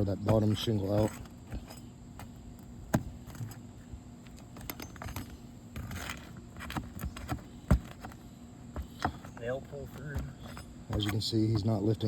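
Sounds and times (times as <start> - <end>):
roof shingle remover prying: 0.0 - 11.9.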